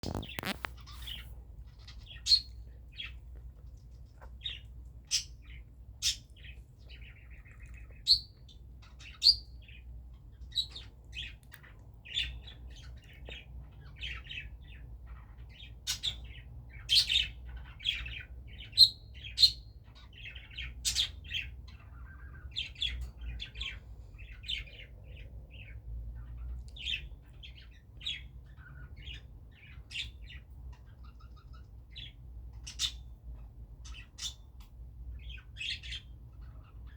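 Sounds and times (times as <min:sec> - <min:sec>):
faint low hum: 0:00.0 - 0:36.9
lovebirds chirping and squawking: 0:00.0 - 0:36.9.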